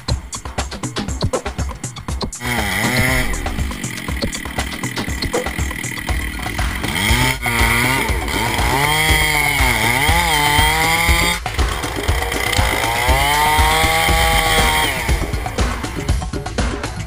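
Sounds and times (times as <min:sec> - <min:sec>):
chainsaw engine revving: 0:00.0 - 0:16.8.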